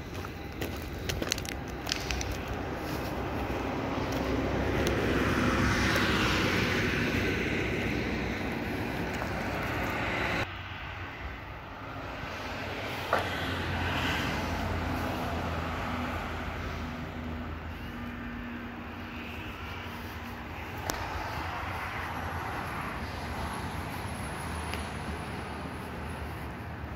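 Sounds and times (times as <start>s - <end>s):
steady traffic hum: 0.0s - 26.9s
vehicle passing: 0.4s - 26.9s.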